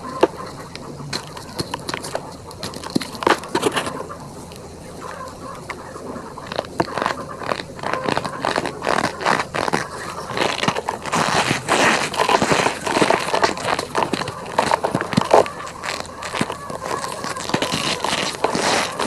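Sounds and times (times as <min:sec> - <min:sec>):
powder crunching and crackling: 0:00.0 - 0:19.0
squeaky creaking cornstarch: 0:00.0 - 0:19.0.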